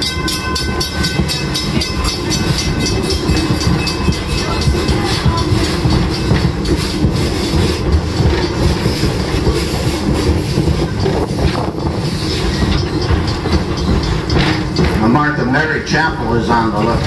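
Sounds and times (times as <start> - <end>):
train car rumbling on rails: 0.0 - 17.0
wheels clacking: 0.0 - 17.0.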